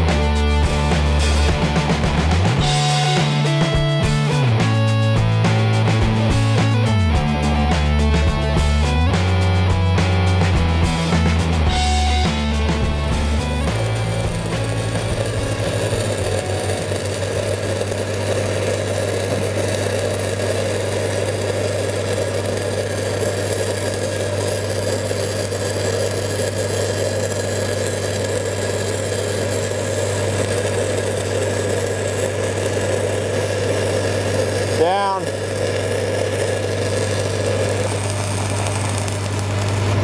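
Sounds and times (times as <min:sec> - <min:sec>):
welder engine humming: 0:00.0 - 0:40.0
welding arc crackling: 0:00.0 - 0:40.0.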